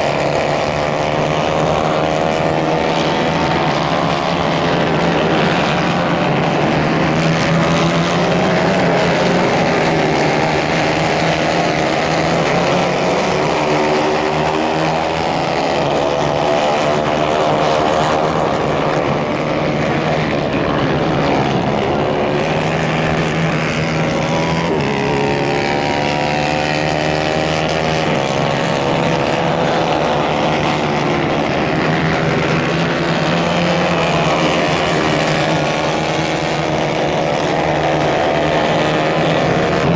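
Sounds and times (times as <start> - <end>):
racing kart engines: 0.0 - 39.9.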